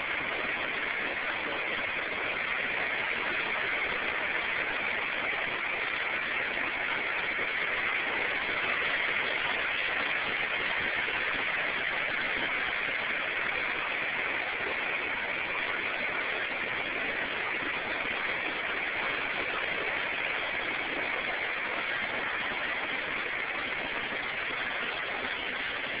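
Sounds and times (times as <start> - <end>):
flooded river rushing: 0.0 - 26.0.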